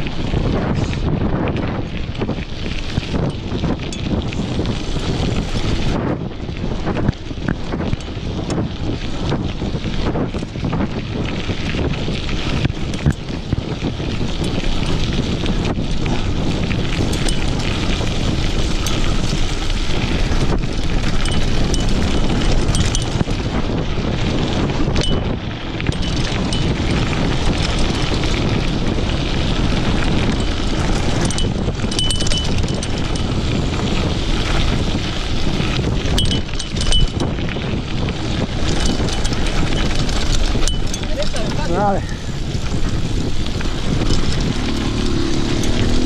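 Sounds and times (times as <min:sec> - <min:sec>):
bike rattling over bumps: 0:00.0 - 0:46.0
tyre noise on dirt: 0:00.0 - 0:46.0
wind rushing over microphone: 0:00.0 - 0:46.0.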